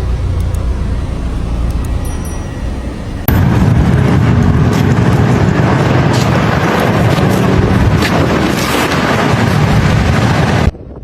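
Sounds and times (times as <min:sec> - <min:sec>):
strong wind on microphone: 0:01.9 - 0:11.0.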